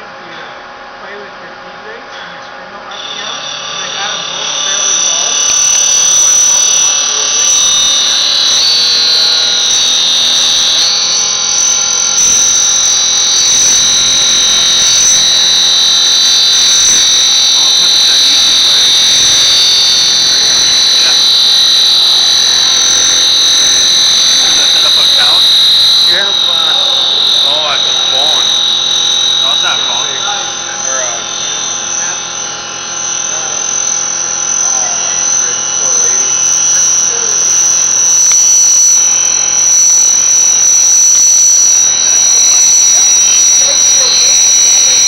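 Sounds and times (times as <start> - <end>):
milling machine cutting metal: 2.9 - 45.0.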